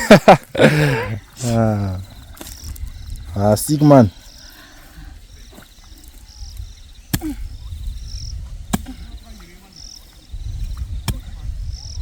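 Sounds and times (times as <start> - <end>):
insects chirping in pulsing trill: 0.0 - 12.0.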